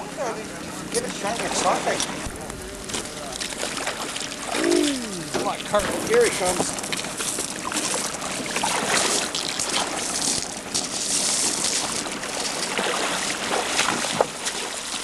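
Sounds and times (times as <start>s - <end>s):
water splashing and trickling: 2.8s - 15.0s.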